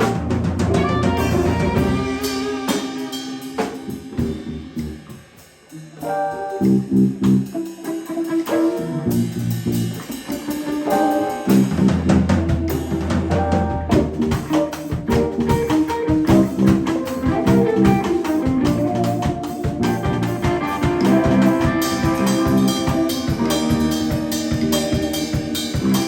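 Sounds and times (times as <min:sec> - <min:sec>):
drum kit beat: 0:00.0 - 0:26.0
electric guitar lines: 0:00.0 - 0:26.0.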